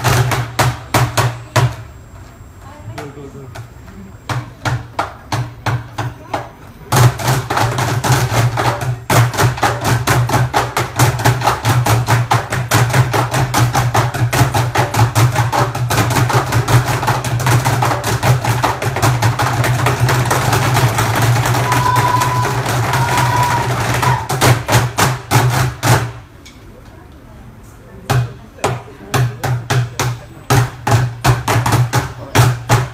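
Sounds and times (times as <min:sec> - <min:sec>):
group drumming on barrels: 0:00.0 - 0:01.9, 0:02.9 - 0:26.3, 0:28.1 - 0:32.9.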